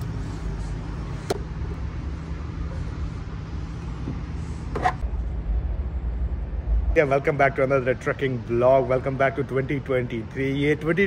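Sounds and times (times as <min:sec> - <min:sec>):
vehicle idling hum: 0:00.0 - 0:11.0.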